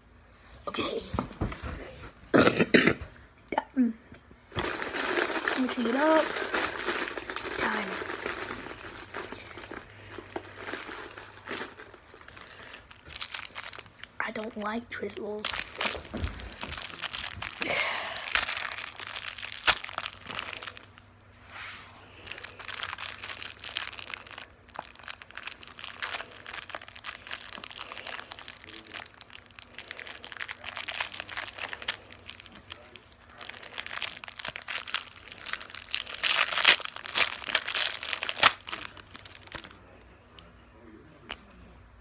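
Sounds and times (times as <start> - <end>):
plastic wrapper crinkling: 4.5 - 21.3, 22.2 - 40.0.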